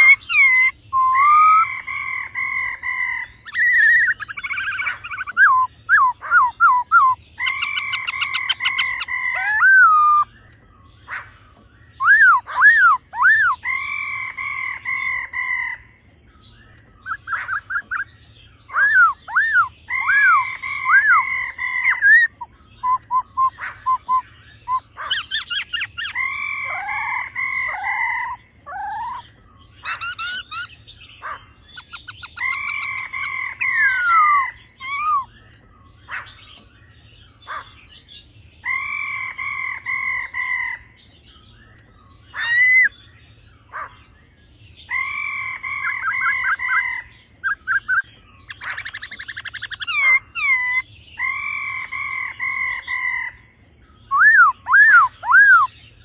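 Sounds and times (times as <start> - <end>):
bird song with whistled notes: 0.0 - 56.0.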